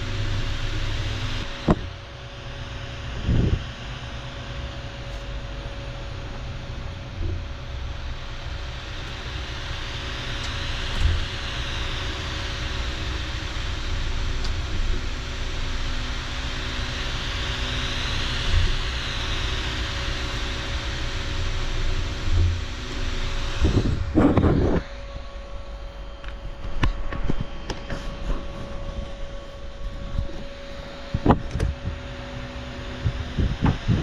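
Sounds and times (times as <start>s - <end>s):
fan hum: 0.0s - 34.0s
printer motor whine: 0.0s - 34.0s.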